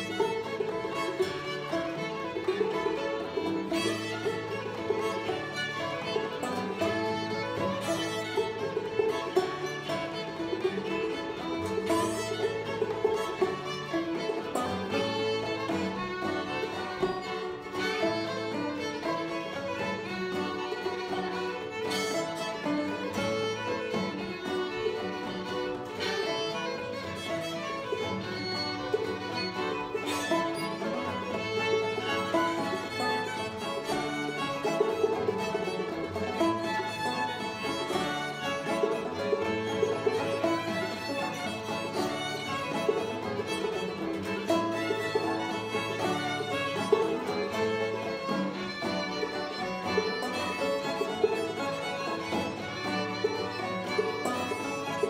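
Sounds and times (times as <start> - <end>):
acoustic guitar: 0.0 - 55.0
banjo: 0.0 - 55.0
fiddles playing melody: 0.0 - 55.0.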